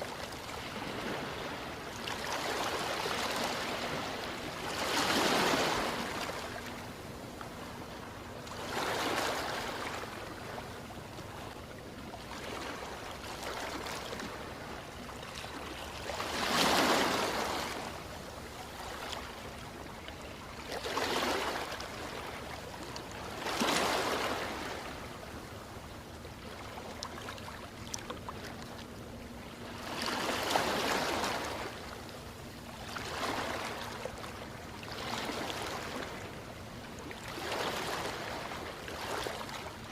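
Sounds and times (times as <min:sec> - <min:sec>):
ocean waves breaking: 0:00.0 - 0:11.5, 0:12.2 - 0:20.0, 0:20.6 - 0:25.4, 0:26.4 - 0:39.9.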